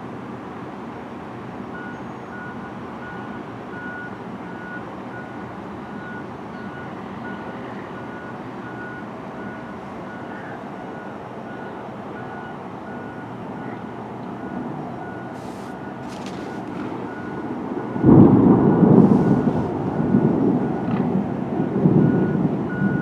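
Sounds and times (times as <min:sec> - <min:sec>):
reversing alarm beeps: 0:01.7 - 0:16.2, 0:17.0 - 0:21.0, 0:21.6 - 0:23.0
rushing storm noise: 0:02.6 - 0:23.0.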